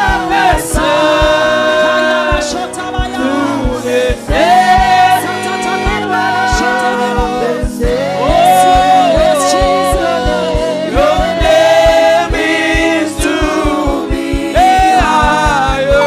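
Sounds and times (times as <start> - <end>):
choir singing: 0.0 - 16.0
fast kick drum beat: 0.0 - 16.0.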